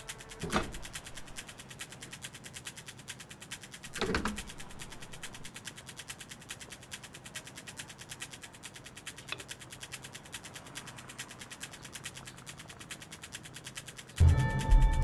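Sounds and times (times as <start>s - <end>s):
fast even ticking: 0.0s - 15.0s.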